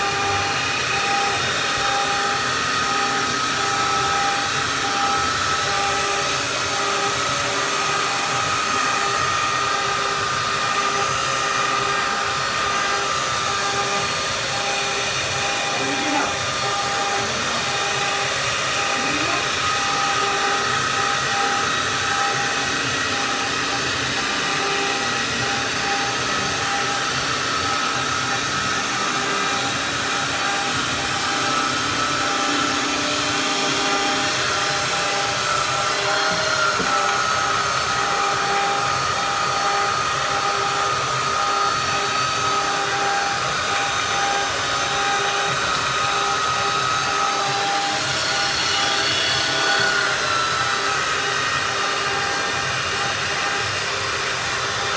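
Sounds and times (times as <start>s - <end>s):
belt sander on wood: 0.0s - 54.9s.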